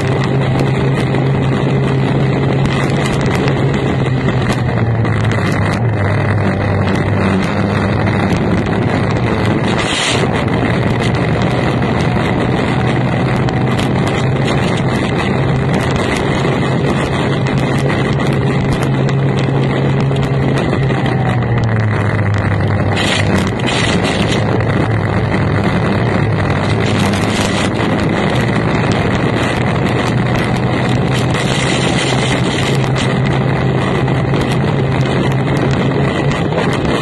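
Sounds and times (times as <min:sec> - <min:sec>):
racing outboard engine drone: 0:00.0 - 0:37.0.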